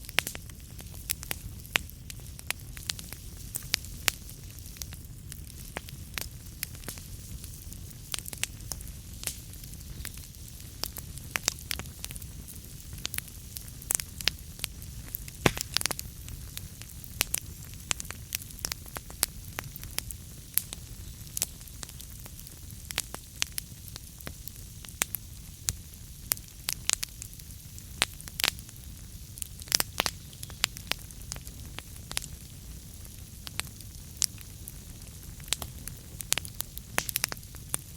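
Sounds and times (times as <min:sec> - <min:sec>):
logs crackling and popping: 0:00.0 - 0:37.9
low rumble of flames: 0:00.0 - 0:37.9.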